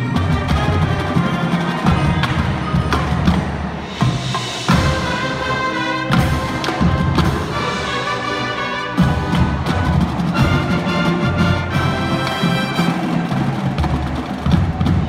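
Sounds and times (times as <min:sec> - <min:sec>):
brass chords: 0:00.0 - 0:13.8
marching drums: 0:00.0 - 0:15.0.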